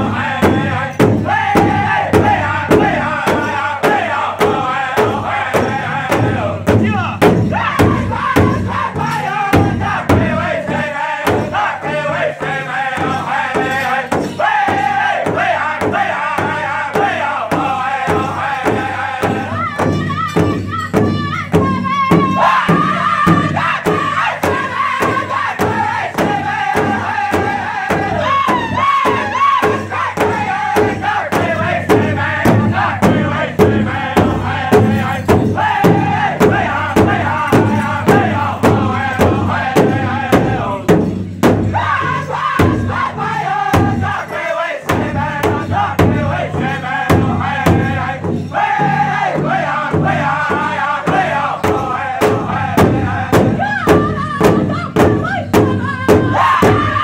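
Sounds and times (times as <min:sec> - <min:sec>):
large drum steady beat: 0:00.0 - 0:57.0
voices chanting together: 0:00.0 - 0:57.0.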